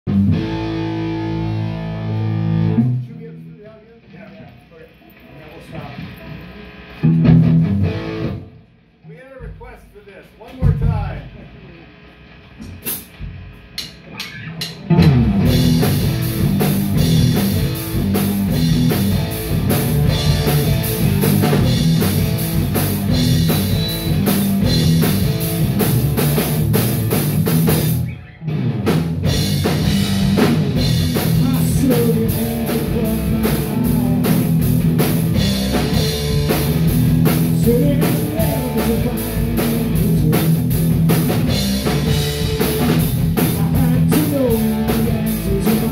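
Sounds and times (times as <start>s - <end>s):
hard rock band playing: 0.1s - 4.5s, 5.5s - 8.7s, 9.3s - 11.6s, 12.6s - 45.9s.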